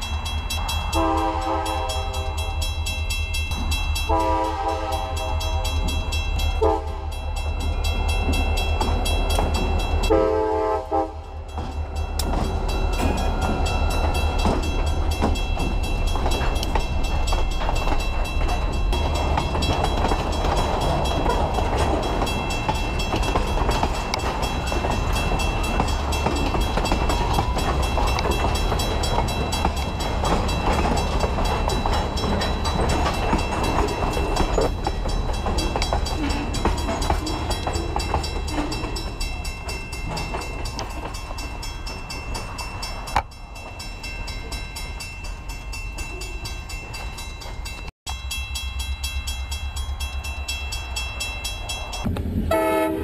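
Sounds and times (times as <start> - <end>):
train wheels grinding on rails: 0.0 - 53.0.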